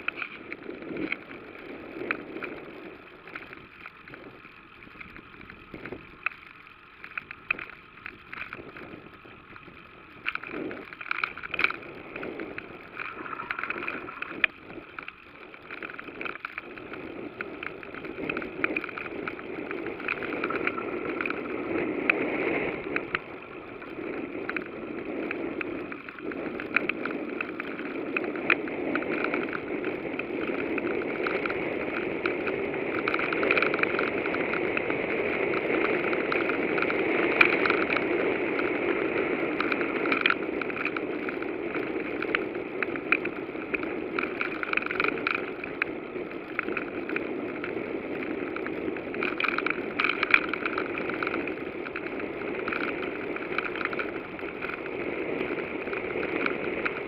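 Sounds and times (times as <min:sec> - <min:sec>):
bicycle tyres rolling: 0:00.0 - 0:57.0
light rattling and clicks: 0:00.0 - 0:57.0.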